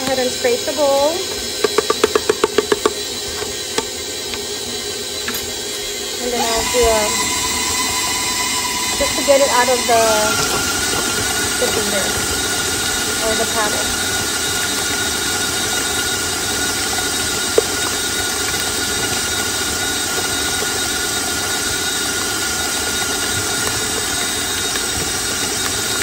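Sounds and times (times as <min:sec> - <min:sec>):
stand mixer motor whining: 0:00.0 - 0:26.0.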